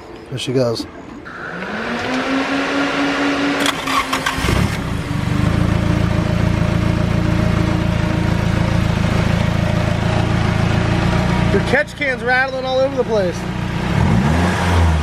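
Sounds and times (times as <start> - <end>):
car engine starting and idling: 1.3 - 15.0.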